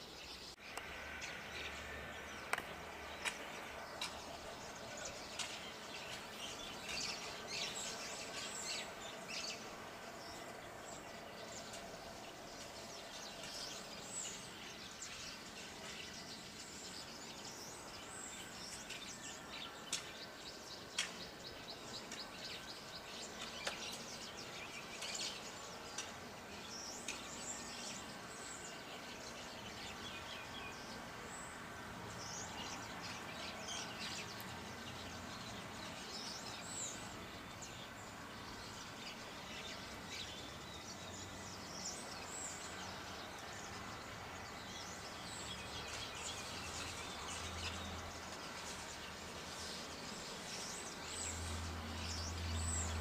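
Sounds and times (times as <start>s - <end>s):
outdoor background hiss: 0.0s - 53.0s
small birds chirping: 0.0s - 53.0s.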